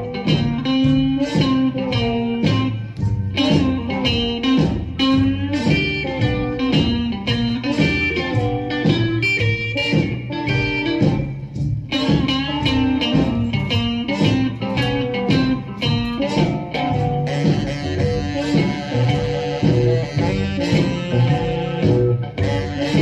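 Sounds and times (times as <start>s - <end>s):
electric guitar: 0.0s - 23.0s
rock and roll instrumental: 0.0s - 23.0s.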